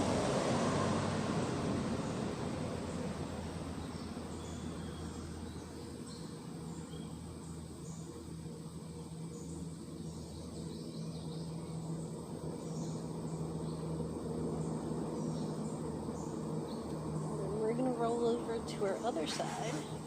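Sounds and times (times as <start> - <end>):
steady low hum: 0.0 - 20.0
birds chirping faintly: 1.1 - 20.0.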